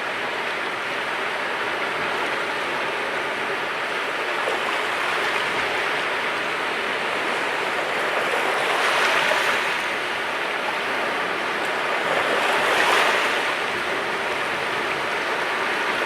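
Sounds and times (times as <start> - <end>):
sea waves on shore: 0.1 - 16.0.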